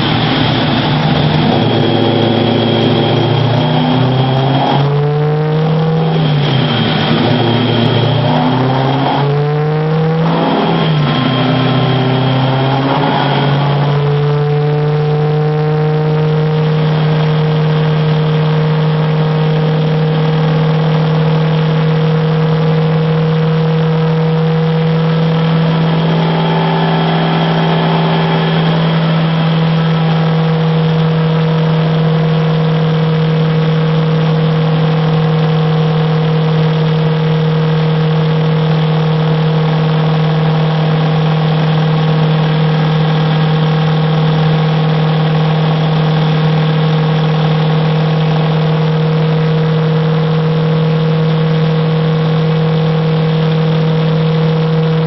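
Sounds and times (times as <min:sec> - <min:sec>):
engine droning steadily: 0:00.0 - 0:55.0.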